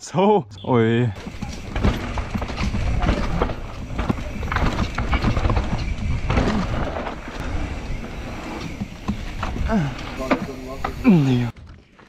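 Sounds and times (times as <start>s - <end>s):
tyres rumbling on dirt: 1.1s - 11.6s
bike rattling and knocking: 1.2s - 11.6s.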